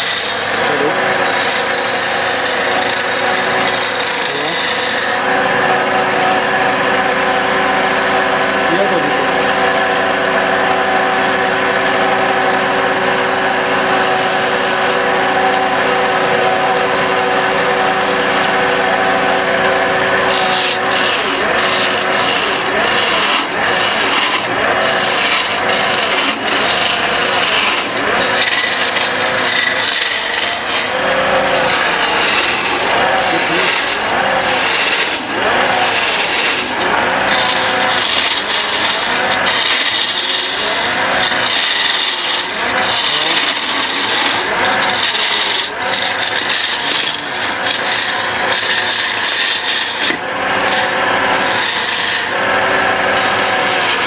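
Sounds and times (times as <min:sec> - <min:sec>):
hand tool scraping spinning wood: 0:00.0 - 0:54.0
wood lathe motor hum: 0:00.0 - 0:54.0.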